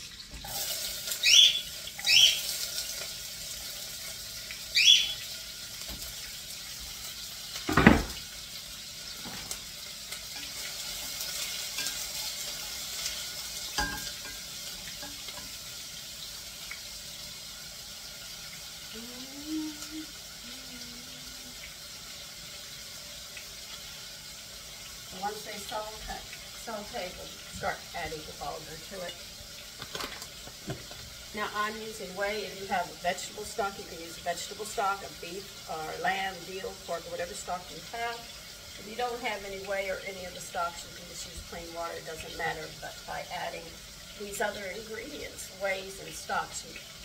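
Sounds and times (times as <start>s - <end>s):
onions sizzling in a frying pan: 0.0s - 47.0s.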